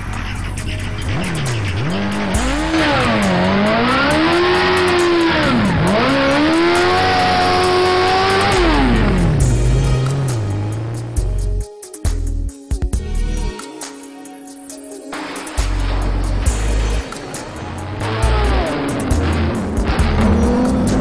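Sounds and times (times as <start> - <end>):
background music with bass: 0.0 - 21.0
motorcycle engine revving: 0.1 - 11.4, 15.2 - 21.0.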